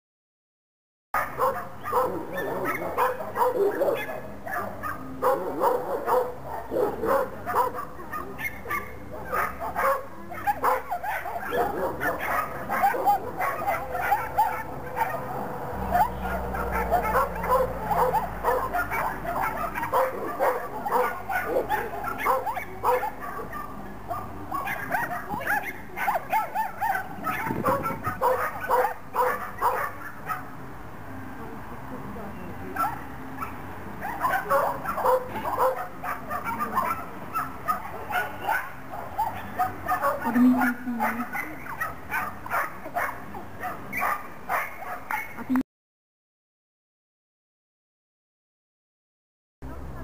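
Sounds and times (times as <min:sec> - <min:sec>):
dog barking and yipping: 0:01.2 - 0:30.5, 0:32.8 - 0:45.4.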